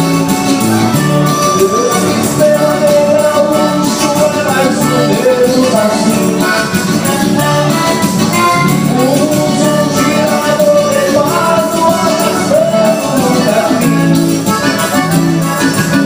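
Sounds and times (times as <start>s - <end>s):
band music: 0.0s - 16.0s.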